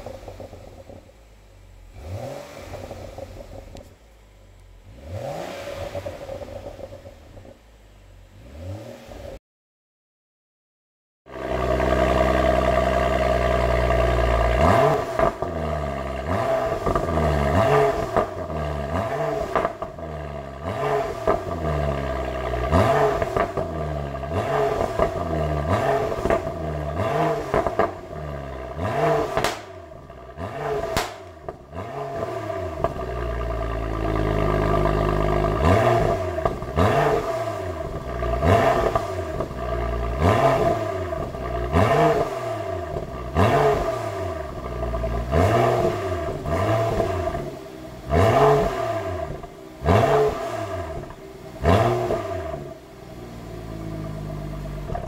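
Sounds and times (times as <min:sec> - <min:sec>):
car engine revving: 0:00.0 - 0:09.4, 0:11.3 - 0:55.0.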